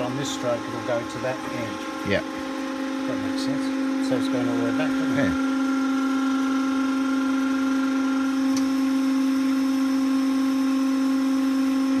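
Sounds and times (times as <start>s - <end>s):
surface grinder humming: 0.0s - 12.0s.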